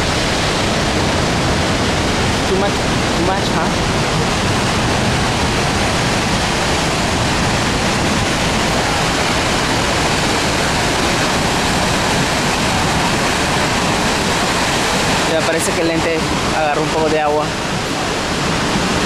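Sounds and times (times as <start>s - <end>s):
waterfall pouring: 0.0s - 19.0s.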